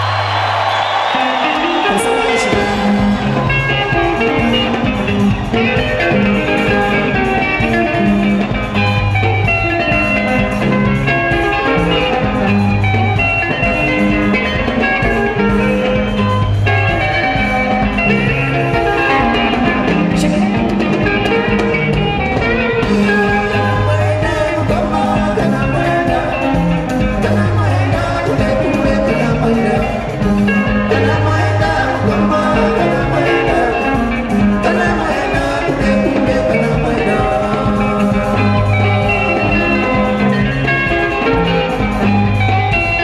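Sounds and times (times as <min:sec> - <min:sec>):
bass line: 0:00.0 - 0:43.0
drums: 0:00.0 - 0:43.0
interlocking electric guitars: 0:00.0 - 0:43.0.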